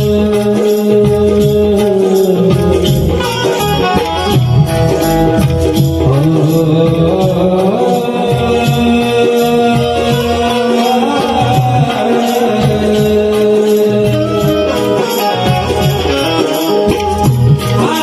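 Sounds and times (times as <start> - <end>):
person singing devotional song: 0.0 - 4.0, 5.7 - 18.0
steady drum beat: 0.0 - 18.0
sustained accompaniment: 0.0 - 18.0.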